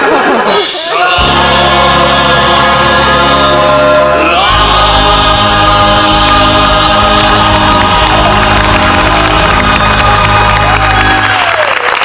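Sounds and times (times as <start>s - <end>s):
voices singing held notes: 0.4s - 11.4s.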